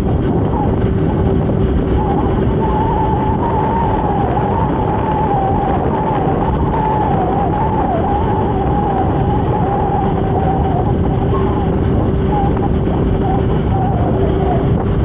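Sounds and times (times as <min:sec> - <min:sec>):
wind and motorcycle engine rumble: 0:00.0 - 0:15.0
thin wavering whistling tone: 0:00.2 - 0:15.0.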